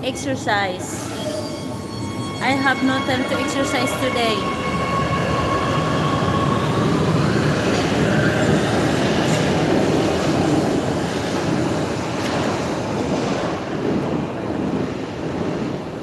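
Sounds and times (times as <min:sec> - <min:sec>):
rising train whine: 0:00.0 - 0:16.0
train wheels rumbling on rails: 0:02.2 - 0:16.0.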